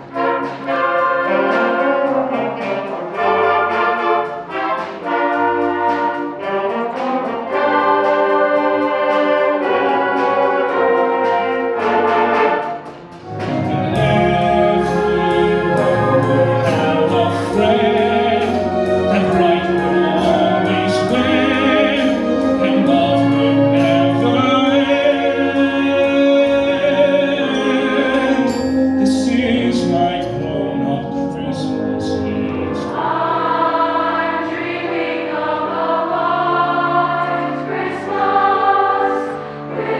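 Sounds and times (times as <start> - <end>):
brass ensemble playing: 0.0 - 39.9
choir singing: 0.0 - 39.9.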